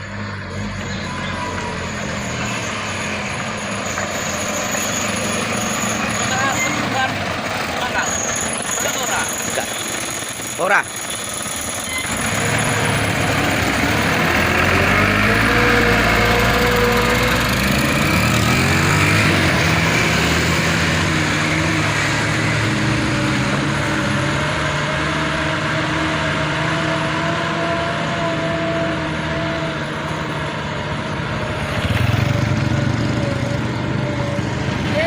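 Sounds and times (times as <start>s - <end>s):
truck engine pulling uphill: 0.0s - 35.0s.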